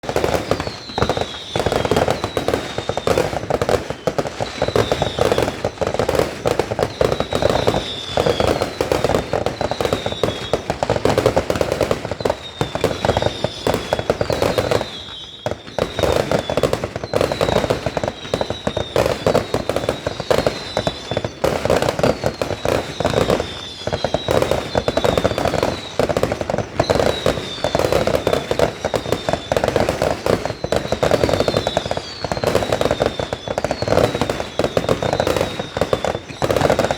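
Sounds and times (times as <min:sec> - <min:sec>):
falling firework whistle: 0:00.0 - 0:36.9
fireworks crackling and popping: 0:00.0 - 0:36.9.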